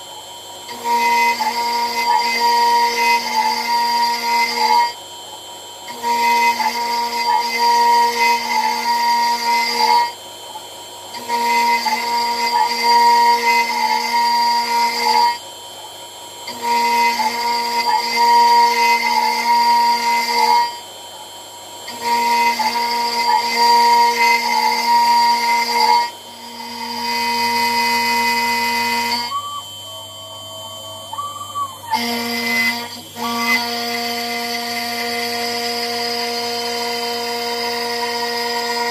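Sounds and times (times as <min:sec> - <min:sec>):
cnc router cutting whine: 0:00.0 - 0:38.9.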